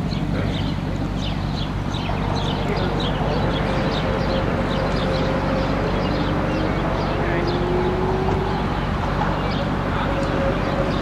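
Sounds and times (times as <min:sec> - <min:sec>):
low engine hum: 0:00.0 - 0:11.0
small birds chirping: 0:00.0 - 0:11.0.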